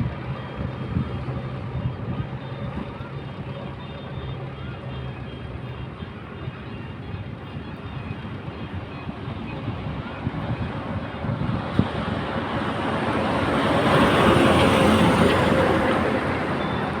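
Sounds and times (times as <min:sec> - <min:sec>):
diesel machinery engine running: 0:00.0 - 0:17.0.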